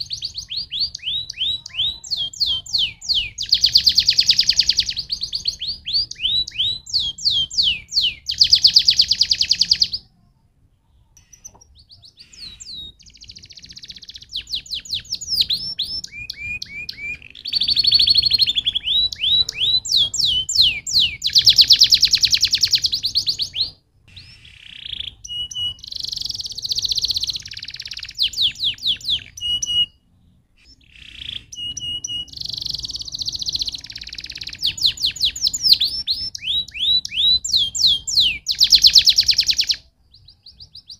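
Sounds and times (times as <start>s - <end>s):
canary singing trills: 0.0s - 10.2s, 10.8s - 40.9s.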